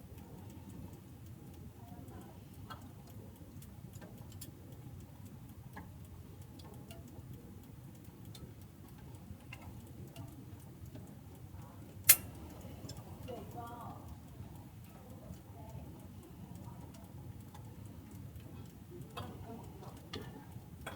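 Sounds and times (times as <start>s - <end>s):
wood fire crackling: 3.0s - 20.9s.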